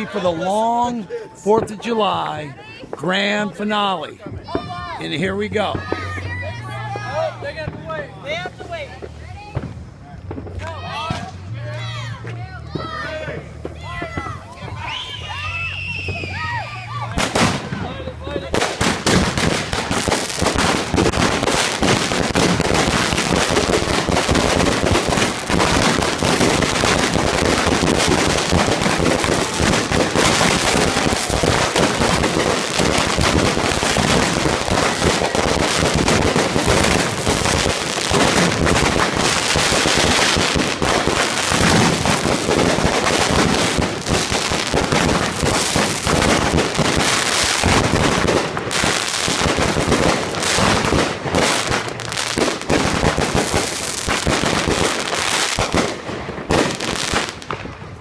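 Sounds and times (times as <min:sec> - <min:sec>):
fireworks banging and crackling: 0:00.0 - 0:58.0.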